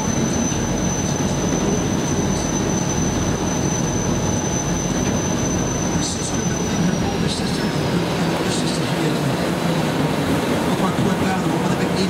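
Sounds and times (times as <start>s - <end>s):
boat engine rumble: 0.0s - 12.0s
thin high whine: 0.0s - 12.0s
water rushing: 0.0s - 12.0s.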